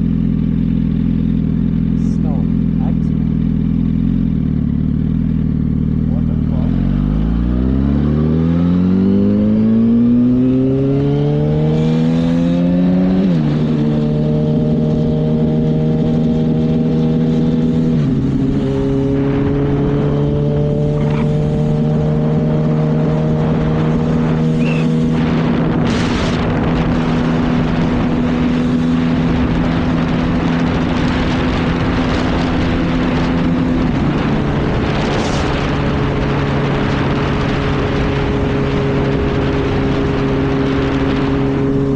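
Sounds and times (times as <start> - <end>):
motorcycle engine accelerating: 0.0 - 41.9
wind rush: 6.9 - 41.9.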